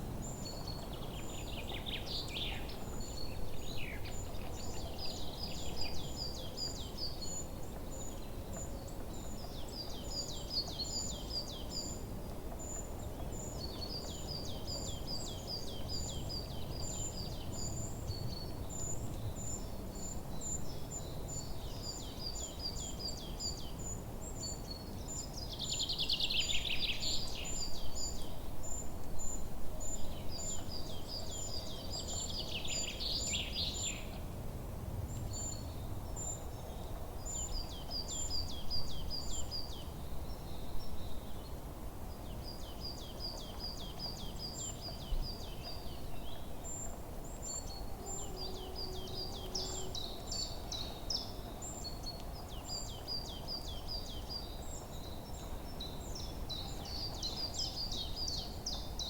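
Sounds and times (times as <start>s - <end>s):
songbirds singing: 0.0s - 34.3s, 35.1s - 59.0s.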